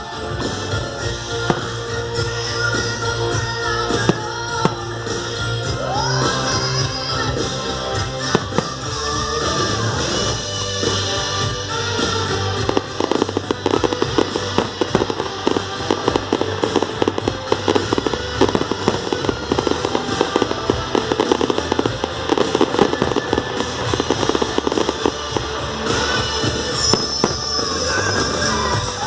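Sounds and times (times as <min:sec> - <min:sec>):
fireworks crackling: 0:00.0 - 0:29.0
guitar-led music: 0:00.0 - 0:29.0.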